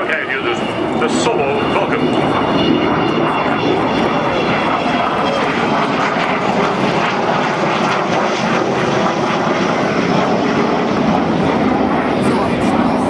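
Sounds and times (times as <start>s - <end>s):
jet aircraft in flight: 0.0s - 13.0s.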